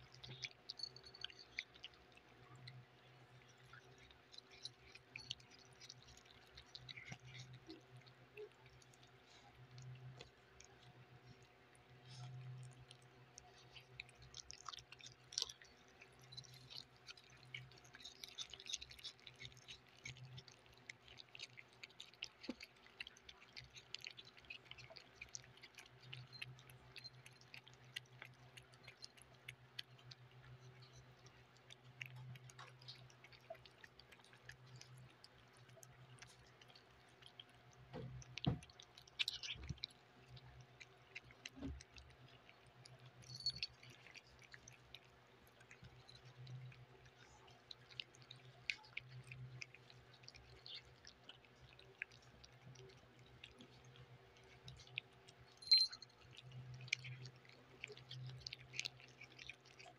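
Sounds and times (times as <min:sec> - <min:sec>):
cats chewing: 0:00.0 - 0:59.9.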